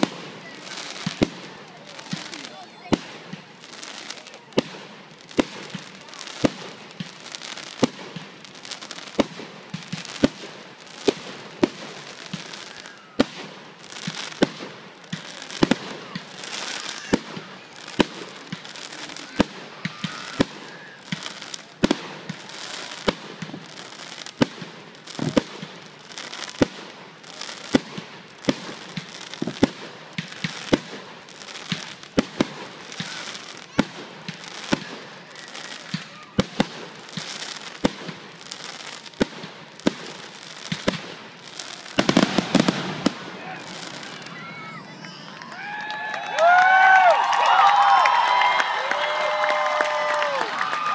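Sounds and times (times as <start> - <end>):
constant hiss: 0.0 - 50.9
fireworks bursting: 0.0 - 50.9.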